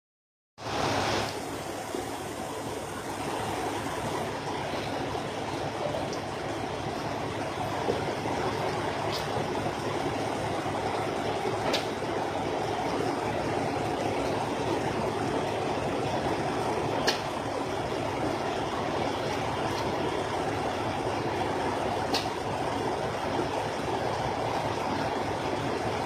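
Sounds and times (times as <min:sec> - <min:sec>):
steady rushing noise: 0:00.6 - 0:26.0.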